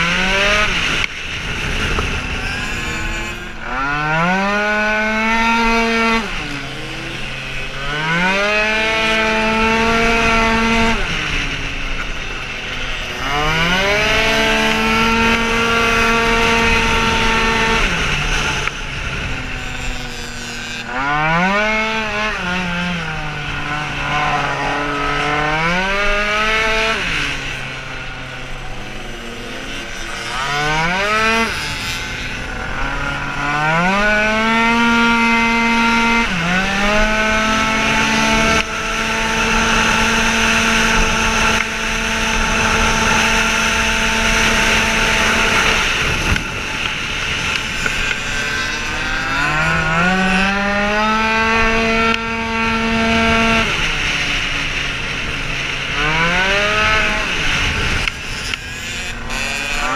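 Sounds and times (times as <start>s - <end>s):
scooter engine revving: 0.0s - 59.9s.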